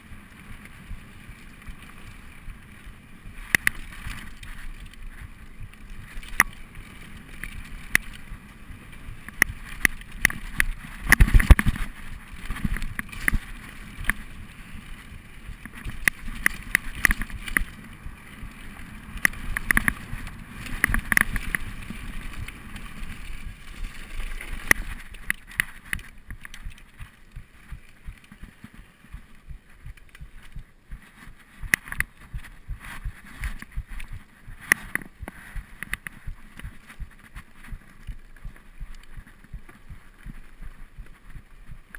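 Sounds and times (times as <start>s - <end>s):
bike rattling and clicking: 0.0s - 41.9s
tyres on dirt and dry leaves: 0.0s - 41.9s
wind on microphone: 7.7s - 41.9s.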